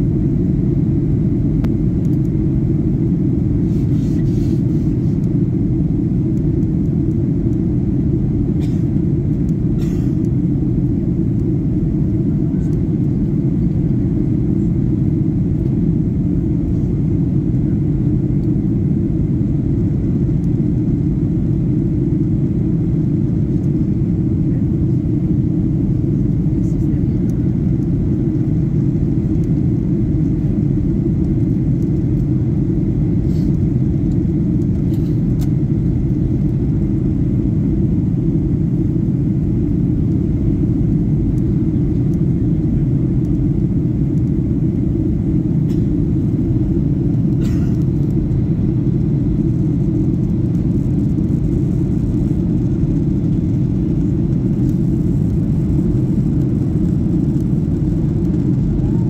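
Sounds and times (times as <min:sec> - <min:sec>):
airliner cabin engine roar: 0:00.0 - 0:59.0.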